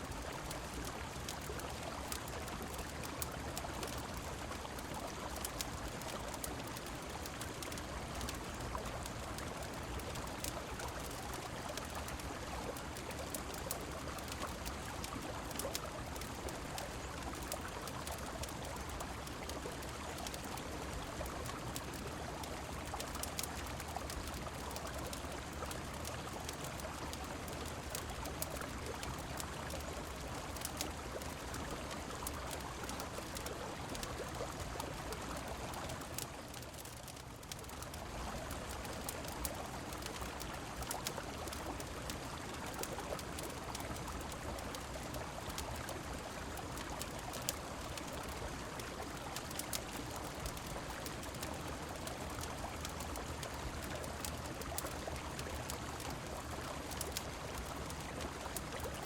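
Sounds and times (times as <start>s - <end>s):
rain falling: 0.0s - 59.0s
wood fire crackling: 0.1s - 59.0s.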